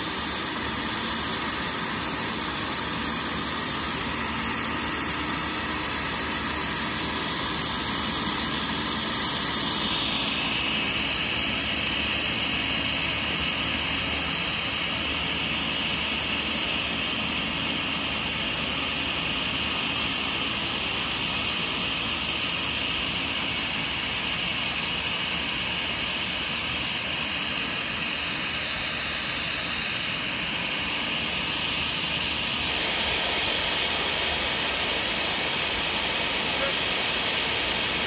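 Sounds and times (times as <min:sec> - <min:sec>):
turboprop aircraft engines whining: 0:00.0 - 0:38.0.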